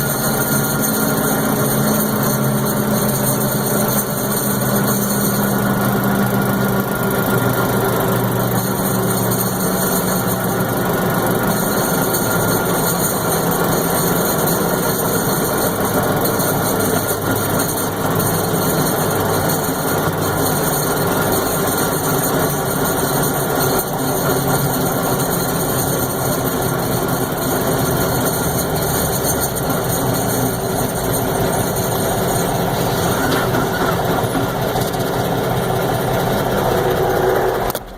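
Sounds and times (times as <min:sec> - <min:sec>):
diesel truck engine running: 0:00.0 - 0:37.9.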